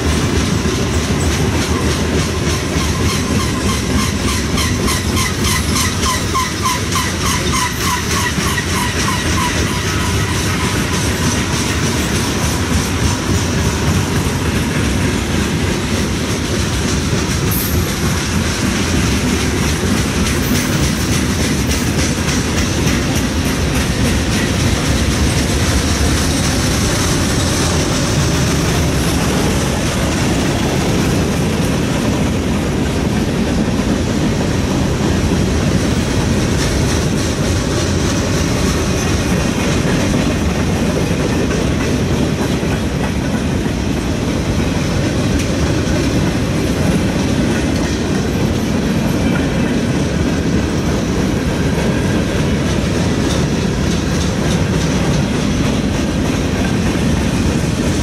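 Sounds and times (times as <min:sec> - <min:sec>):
steel wheels rumbling on rail: 0:00.0 - 0:58.0
wheels clicking over rail joints: 0:00.0 - 0:58.0.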